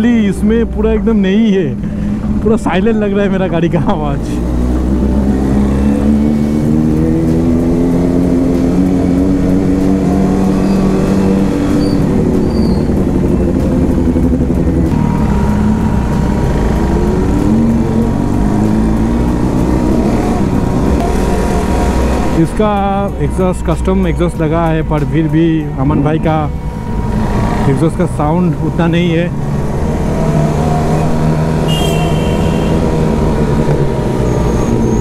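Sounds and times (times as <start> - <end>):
motorcycle engines rumbling: 0.0 - 35.0.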